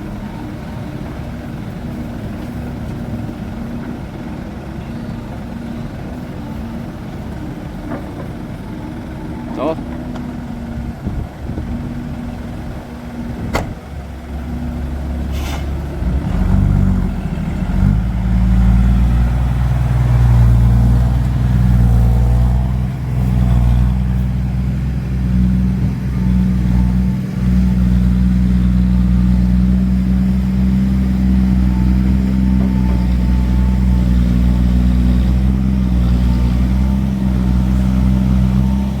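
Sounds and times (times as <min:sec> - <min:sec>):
heavy diesel truck engine: 0:00.0 - 0:39.0.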